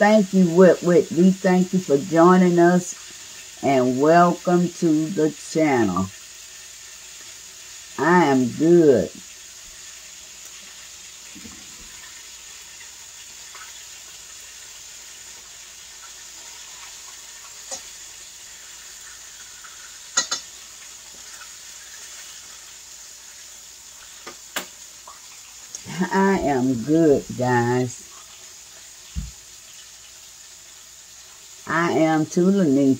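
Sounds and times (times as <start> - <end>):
oil sizzling in a pan: 0.0 - 32.9.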